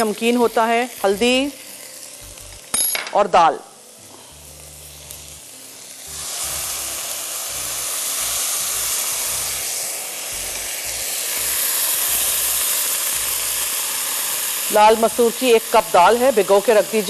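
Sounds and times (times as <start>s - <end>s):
oil sizzling and steam hissing: 0.0s - 17.0s.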